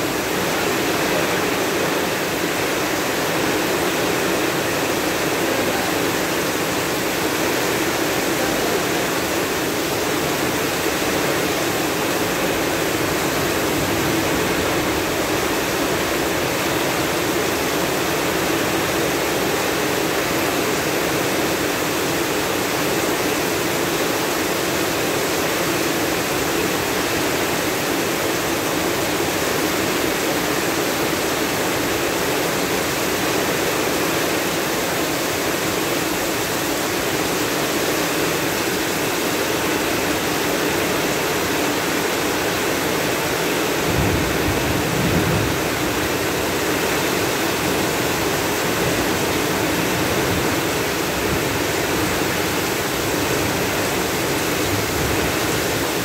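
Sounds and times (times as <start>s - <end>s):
heavy rain on street: 0.0s - 56.0s.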